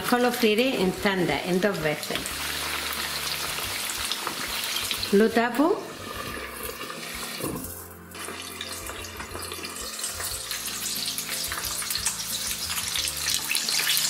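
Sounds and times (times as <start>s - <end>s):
chicken frying in oil: 0.0s - 14.0s.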